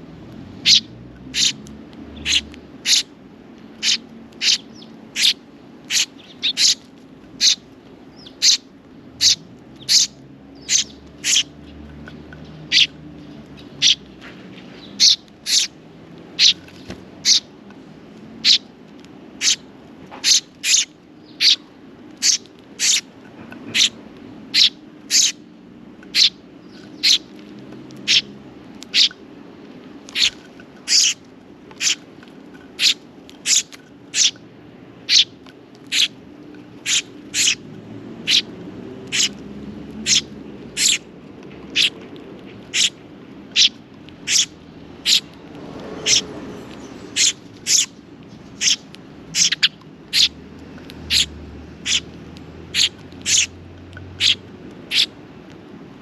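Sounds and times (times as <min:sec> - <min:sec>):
sparrow chick chirping: 0:00.6 - 0:15.8, 0:16.4 - 0:17.5, 0:18.4 - 0:18.7, 0:19.4 - 0:25.4, 0:26.1 - 0:27.3, 0:28.0 - 0:29.2, 0:30.0 - 0:31.2, 0:31.8 - 0:32.1, 0:32.7 - 0:34.4, 0:35.0 - 0:41.1, 0:41.7 - 0:42.0, 0:42.6 - 0:45.4, 0:46.0 - 0:55.2.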